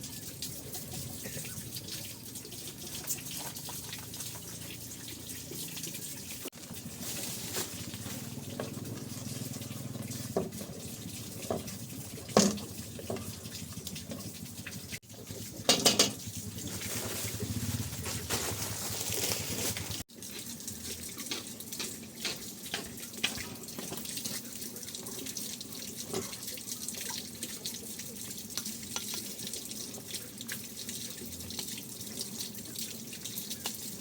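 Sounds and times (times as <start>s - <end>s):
water running: 0.0s - 34.0s.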